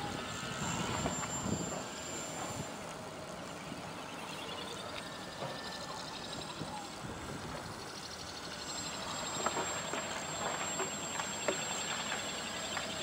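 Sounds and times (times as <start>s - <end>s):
model aircraft motor droning: 0.0s - 13.0s.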